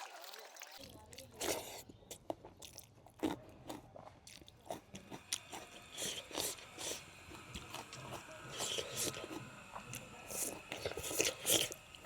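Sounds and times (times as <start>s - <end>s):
person chewing food: 1.1s - 12.0s.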